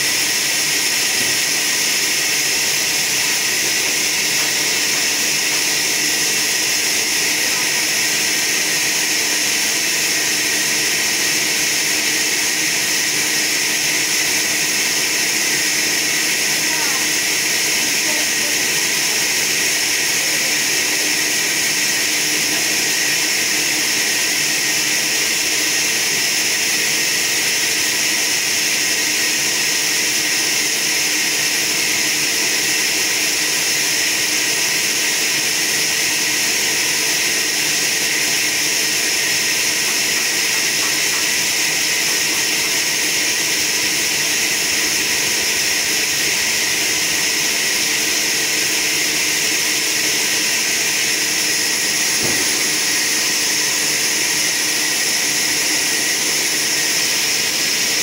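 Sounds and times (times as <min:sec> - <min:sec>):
sawmill machinery hiss: 0:00.0 - 0:58.0.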